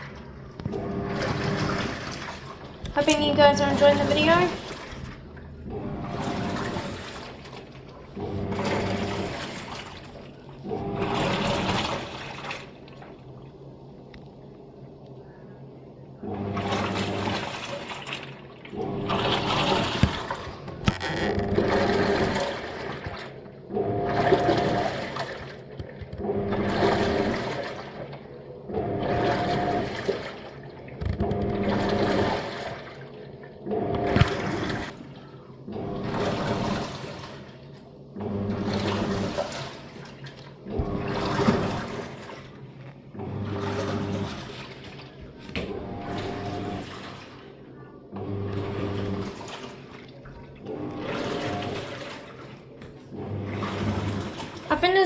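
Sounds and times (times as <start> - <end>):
washing machine motor humming: 0.0 - 55.0
water sloshing in tub: 0.0 - 55.0.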